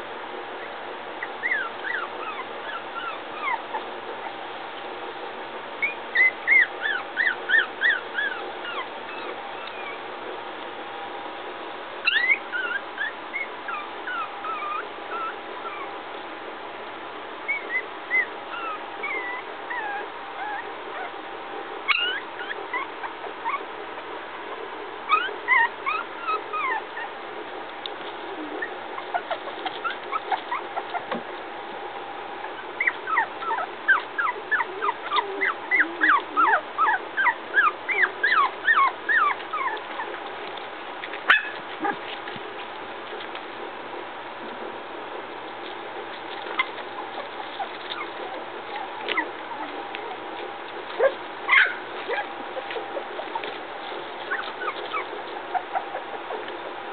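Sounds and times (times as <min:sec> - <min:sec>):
puppies whimpering and squeaking: 0:00.6 - 0:04.5, 0:05.8 - 0:10.2, 0:12.0 - 0:16.0, 0:17.5 - 0:21.3, 0:21.9 - 0:23.8, 0:24.6 - 0:27.2, 0:27.9 - 0:43.4, 0:44.4 - 0:56.9.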